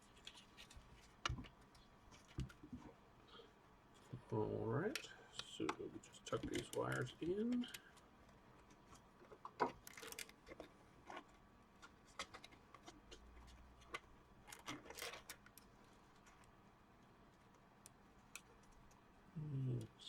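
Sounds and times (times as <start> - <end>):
faint clicks and rustles of handling: 0.0 - 20.0.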